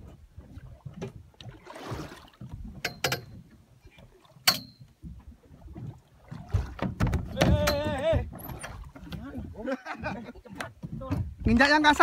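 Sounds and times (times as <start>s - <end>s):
low rumble of boat: 0.0s - 12.0s.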